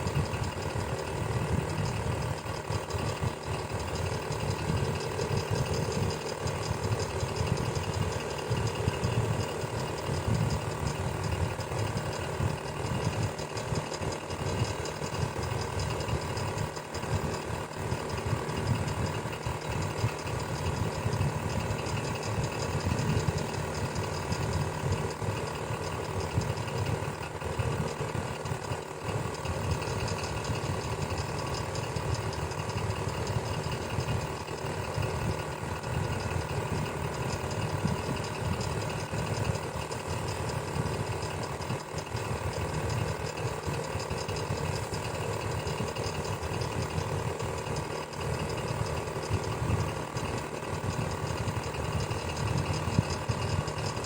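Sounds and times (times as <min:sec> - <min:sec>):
electric fan whirring: 0:00.0 - 0:54.0.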